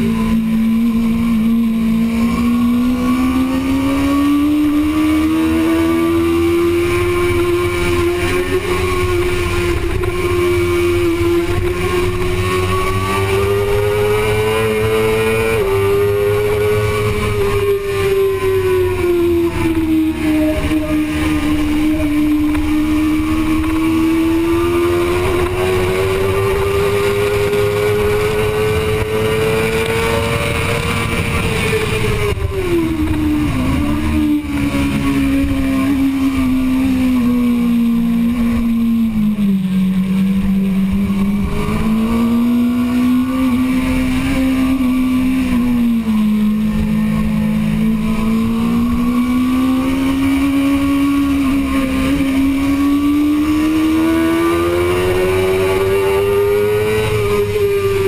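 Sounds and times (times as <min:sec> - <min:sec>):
motorcycle engine revving high: 0:00.0 - 0:58.0.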